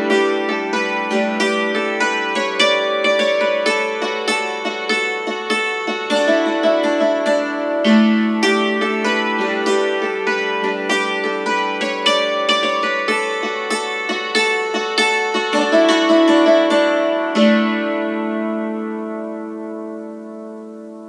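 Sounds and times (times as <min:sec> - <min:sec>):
hammered dulcimer playing: 0:00.0 - 0:21.0.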